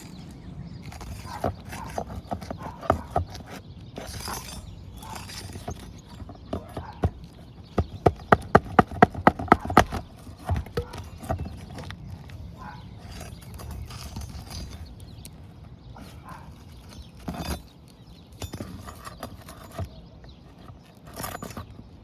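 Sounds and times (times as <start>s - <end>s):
pry bar knocking and scraping: 0.0s - 22.0s.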